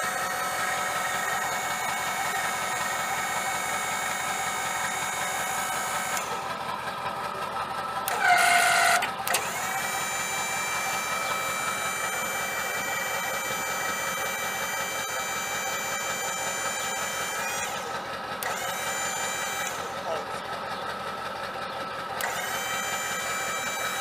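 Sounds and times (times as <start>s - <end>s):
steady high whine: 0.0s - 20.4s, 22.2s - 24.0s
diesel engine idling: 0.0s - 24.0s.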